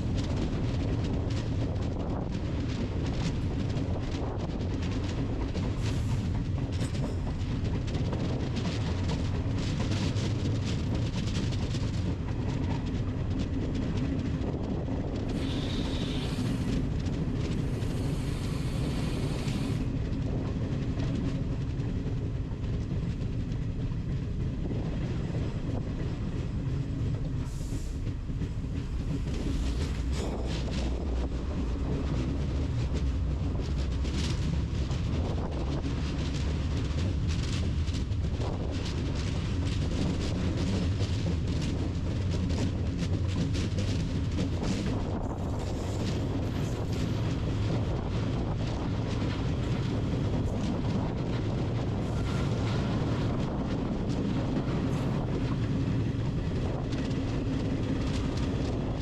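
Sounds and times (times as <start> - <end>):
train rumbling on rails: 0.0 - 59.0
wheels clicking over rail joints: 0.0 - 59.0.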